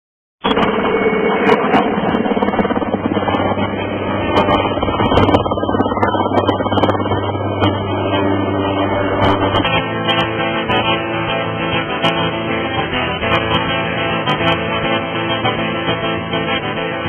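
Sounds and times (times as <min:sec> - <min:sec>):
two-stroke motorcycle engine: 0:01.6 - 0:17.0.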